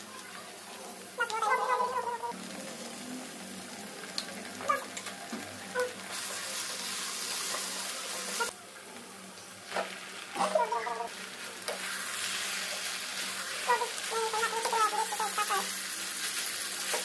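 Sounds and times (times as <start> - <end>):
vegetables and meat sizzling in a pan: 0.0 - 17.0.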